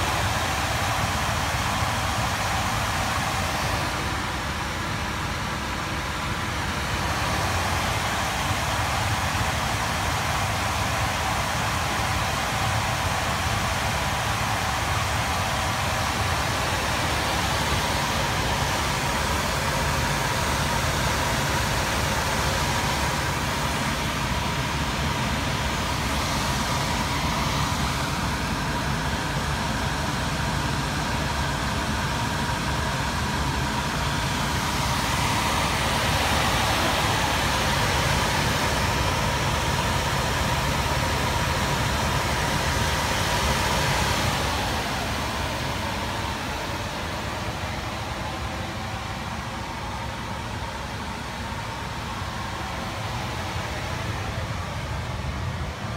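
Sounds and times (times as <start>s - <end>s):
faint steady whine: 0.0s - 55.9s
furnace blower fan running: 0.0s - 55.9s.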